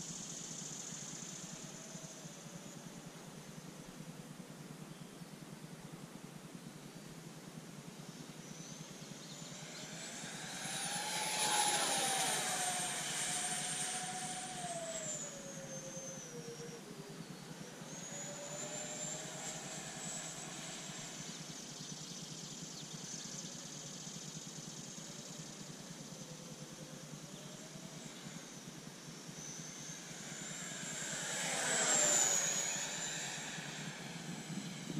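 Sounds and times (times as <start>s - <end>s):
model jet fans whining: 0.0s - 4.6s, 7.2s - 34.9s.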